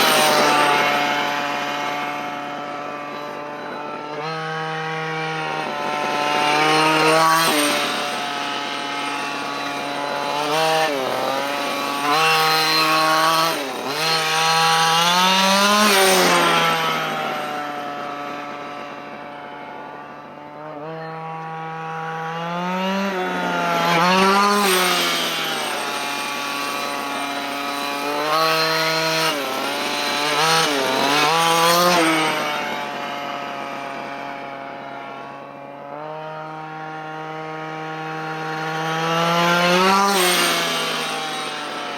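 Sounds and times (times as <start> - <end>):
small two-stroke engine revving: 0.0 - 41.9.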